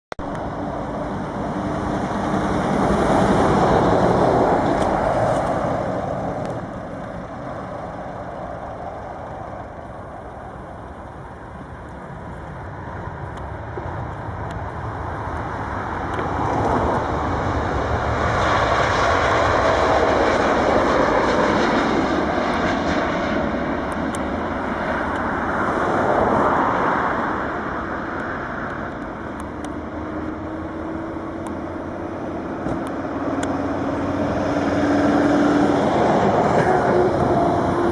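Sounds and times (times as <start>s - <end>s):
jet engines roaring: 0.2s - 37.9s.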